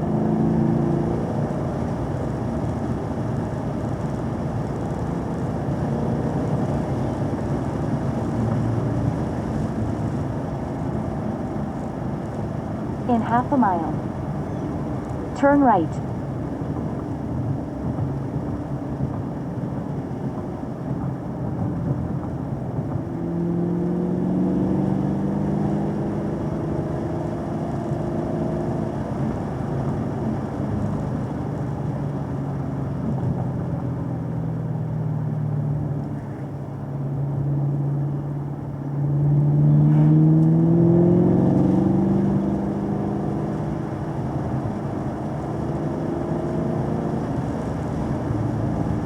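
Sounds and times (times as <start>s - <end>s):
car engine accelerating: 0.0s - 49.0s
road noise: 0.0s - 49.0s.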